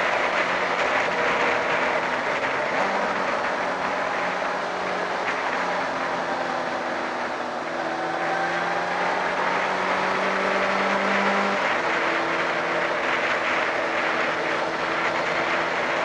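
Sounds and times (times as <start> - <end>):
motorcycle engine cruising: 0.0 - 16.0
wind rush on microphone: 0.0 - 16.0.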